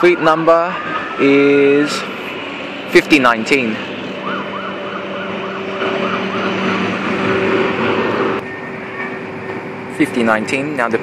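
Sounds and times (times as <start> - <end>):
tram humming: 0.0 - 11.0.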